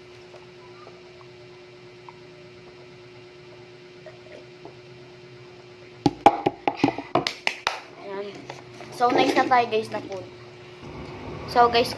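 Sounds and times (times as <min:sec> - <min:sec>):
low electrical hum: 0:00.0 - 0:11.9.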